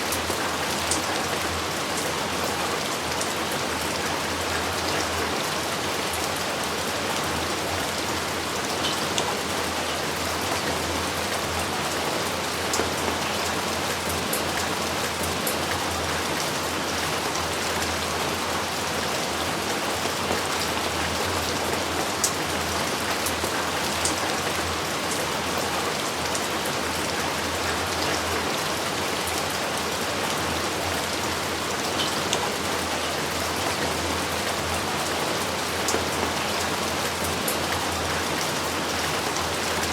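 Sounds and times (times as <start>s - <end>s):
raindrops hitting nearby surfaces: 0.0s - 39.9s.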